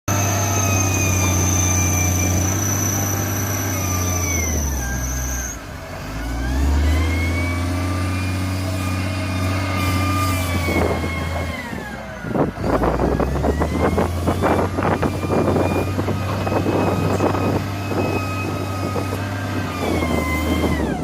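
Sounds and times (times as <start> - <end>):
heavy diesel engines under load: 0.1 - 21.0.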